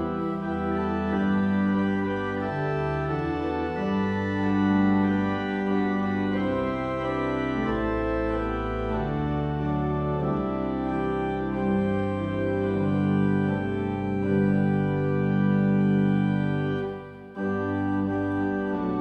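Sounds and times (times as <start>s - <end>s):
pipe organ playing chords: 0.0s - 19.0s.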